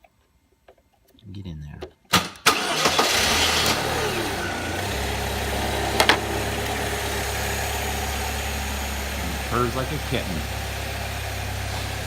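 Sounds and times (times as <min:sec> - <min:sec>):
car engine starting and idling: 0:02.1 - 0:12.0.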